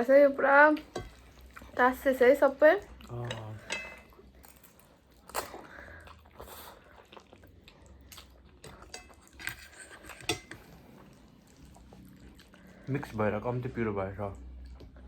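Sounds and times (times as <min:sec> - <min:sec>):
close-up chewing noodles: 0:00.7 - 0:01.9, 0:02.8 - 0:15.0.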